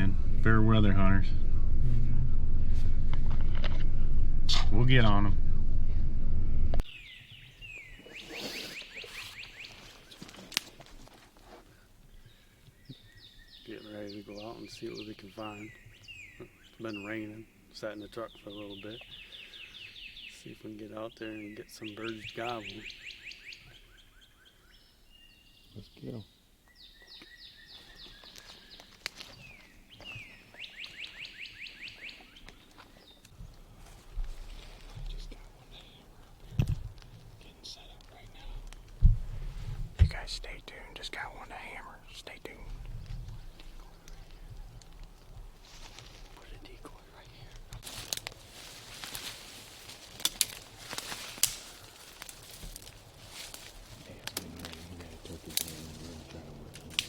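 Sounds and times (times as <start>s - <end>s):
songbirds singing: 6.8s - 10.6s, 11.6s - 57.0s.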